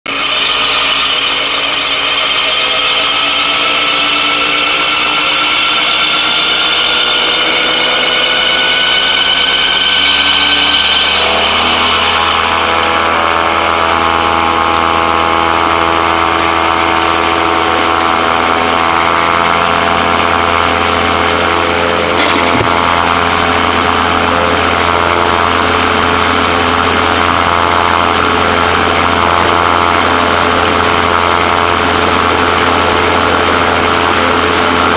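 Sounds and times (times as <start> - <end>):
gyroplane engine and propeller drone: 0.1 - 34.9.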